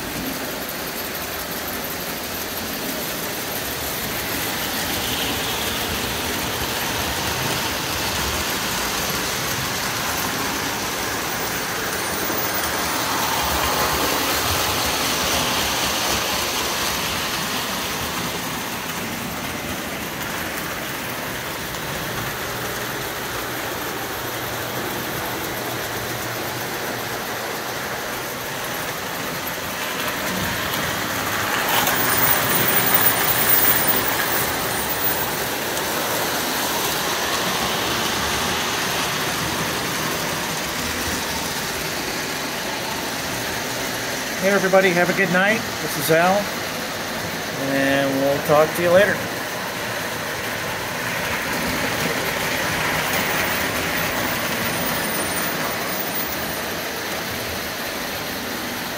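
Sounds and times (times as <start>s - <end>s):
toy train motor and wheels: 0.0s - 58.9s.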